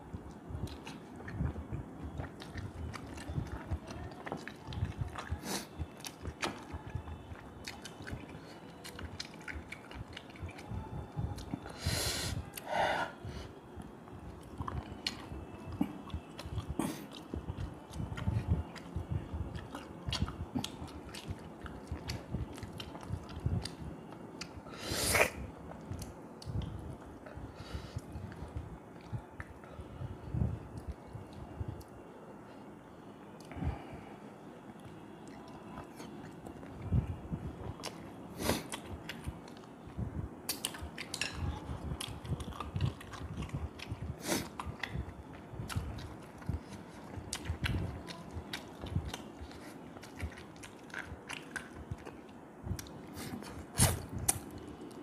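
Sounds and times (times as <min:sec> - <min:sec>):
wet chewing and smacking: 0:00.1 - 0:11.7, 0:13.8 - 0:24.6, 0:25.6 - 0:29.7, 0:34.7 - 0:55.0.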